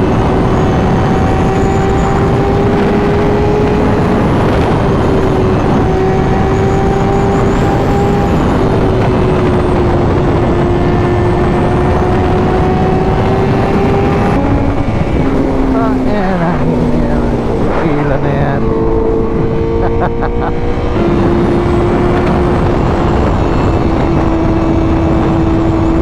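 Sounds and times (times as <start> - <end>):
motorcycle engine cruising: 0.0 - 26.0
wind rush on microphone: 0.0 - 26.0.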